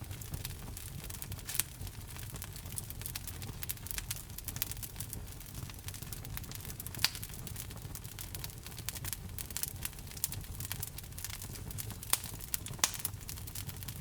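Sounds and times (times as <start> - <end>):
fireplace fire crackling: 0.0 - 14.0
loud fire pops: 0.0 - 14.0
low rumble of flame: 0.0 - 14.0.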